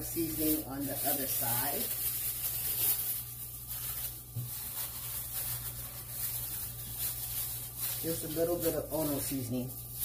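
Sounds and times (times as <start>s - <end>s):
plastic glove rustling on raw meat: 0.0s - 10.0s.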